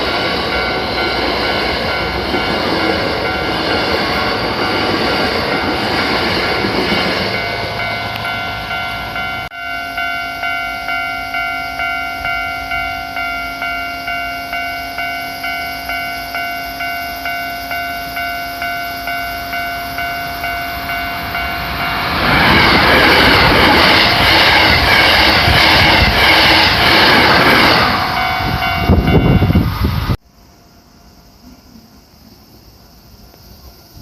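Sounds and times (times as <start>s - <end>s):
level crossing warning bell: 0.0s - 29.9s
wheel and rail noise: 0.0s - 30.2s.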